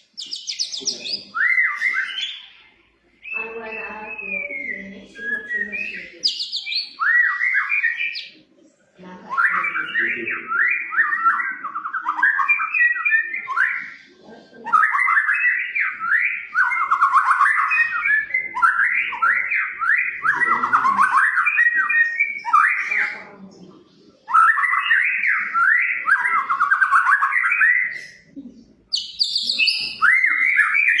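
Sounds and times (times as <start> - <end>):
songbird whistling rapid phrases: 0.0 - 2.6, 3.2 - 8.4, 9.3 - 14.0, 14.7 - 23.2, 24.2 - 28.3, 28.9 - 31.0.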